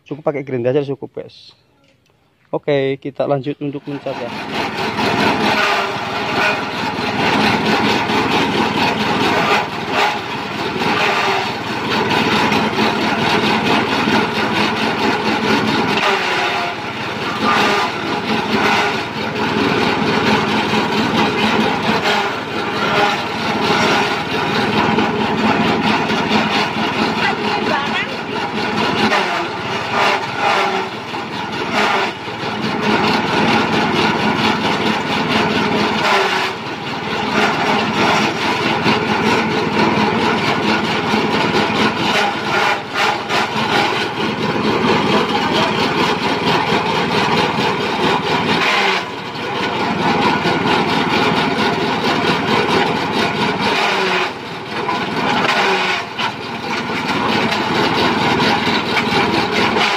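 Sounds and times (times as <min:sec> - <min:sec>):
small engine running: 0:03.7 - 0:59.9
chopper cutting branches: 0:03.8 - 0:59.9.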